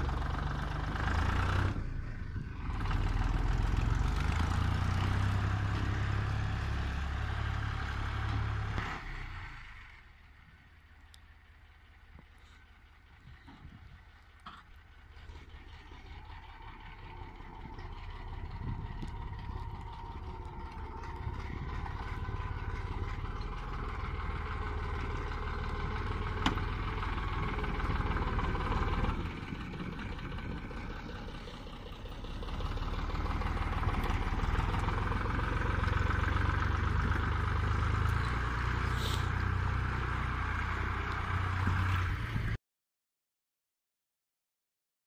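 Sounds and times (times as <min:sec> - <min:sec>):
tractor diesel engine running: 0:00.0 - 0:42.6.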